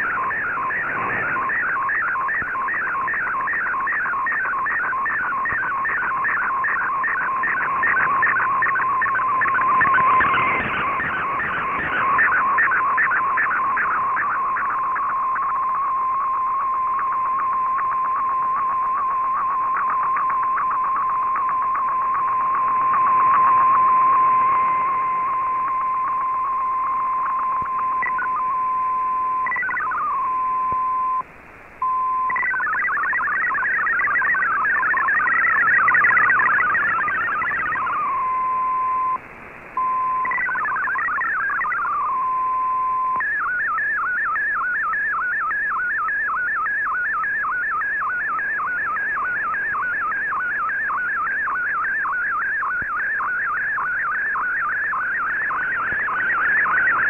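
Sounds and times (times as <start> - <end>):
fast repeating radio sweep: 0.0 - 30.2, 32.3 - 39.2, 39.8 - 57.0
warbling multi-tone data burst: 0.0 - 31.2, 32.2 - 39.2, 39.8 - 57.0
steady radio tone: 0.0 - 57.0.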